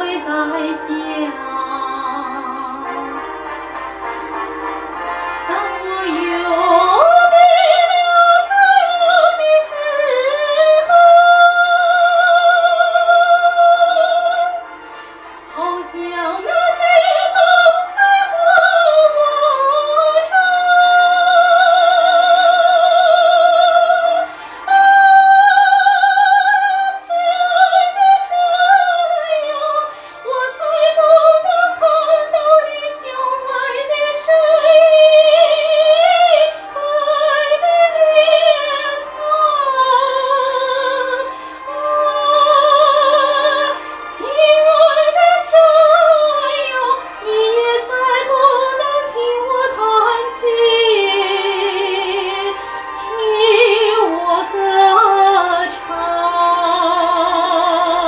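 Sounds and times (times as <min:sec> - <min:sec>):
woman singing operatically: 0:00.0 - 0:03.1, 0:05.5 - 0:14.7, 0:15.5 - 0:58.0.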